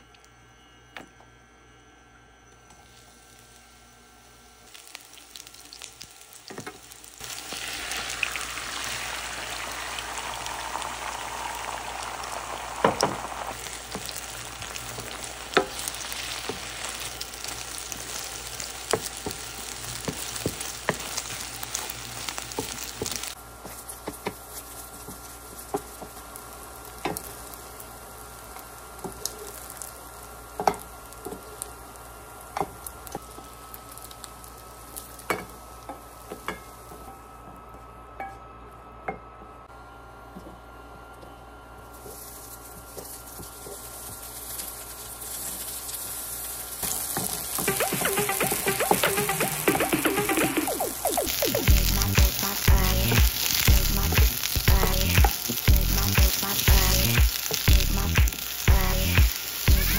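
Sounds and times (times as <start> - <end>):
eggs sizzling in hot oil: 2.7 - 37.1, 42.5 - 59.9.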